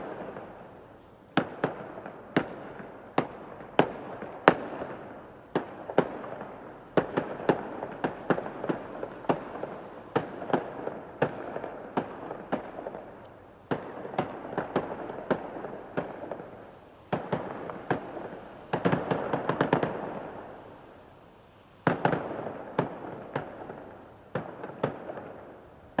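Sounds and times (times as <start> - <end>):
fireworks bangs and crackling: 0.0 - 21.1, 21.8 - 26.0.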